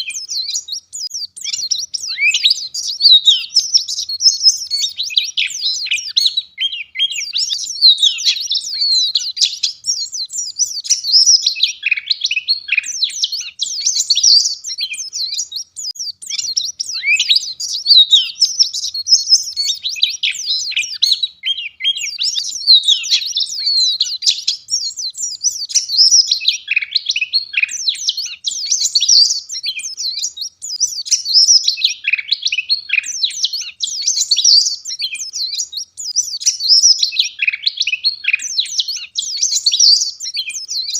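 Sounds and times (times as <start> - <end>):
bird chirping and twittering: 0.0 - 40.9.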